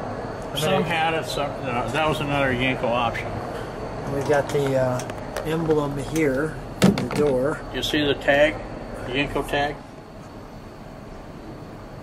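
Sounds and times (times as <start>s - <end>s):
hall background hum and hiss: 0.0s - 12.0s.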